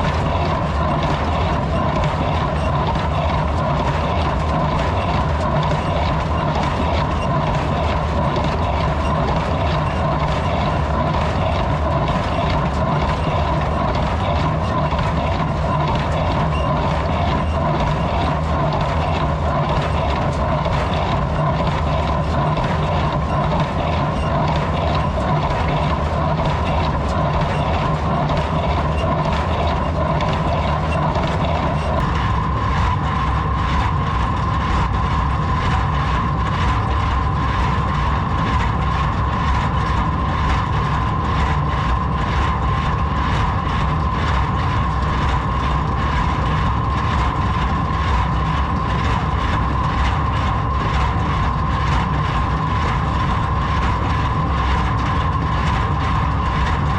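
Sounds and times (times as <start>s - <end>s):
baler machinery clacking: 0.0s - 56.9s
tractor engine running under load: 0.0s - 56.9s.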